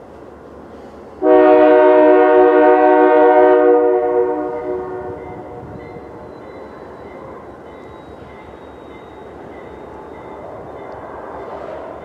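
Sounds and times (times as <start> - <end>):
diesel locomotives running: 0.0 - 12.0.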